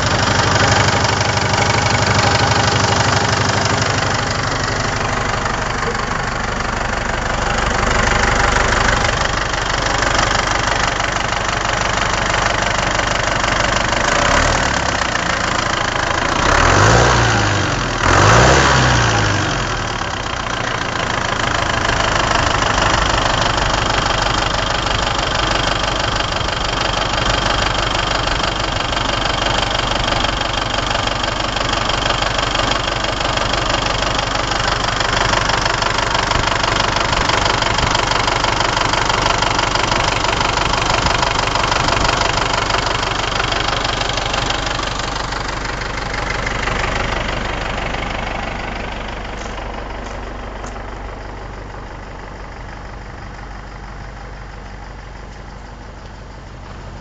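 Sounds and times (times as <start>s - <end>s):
tractor diesel engine clatter: 0.0s - 57.0s.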